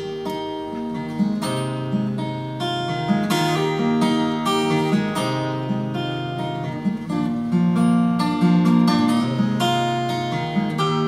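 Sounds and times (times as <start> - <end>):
fingerstyle acoustic guitar: 0.0 - 11.0.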